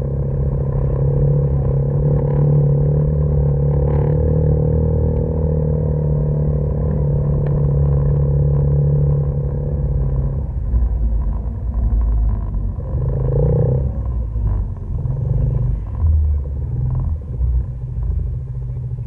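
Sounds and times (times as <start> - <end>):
off-road vehicles idling: 0.0 - 19.0
utility vehicle engine rumble: 0.0 - 19.0.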